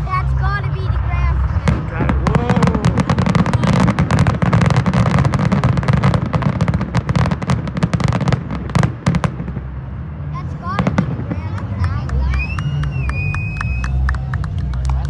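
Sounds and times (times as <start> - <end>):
deep rumble: 0.0 - 15.0
fireworks bangs and crackles: 0.0 - 15.0.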